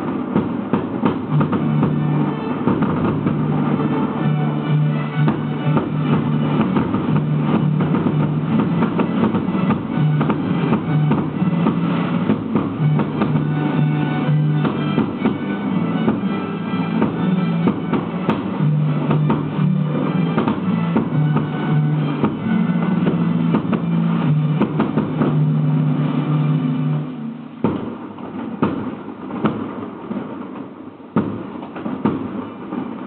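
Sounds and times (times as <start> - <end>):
percussion hits: 0.0 - 33.0
held low music notes: 1.0 - 27.7.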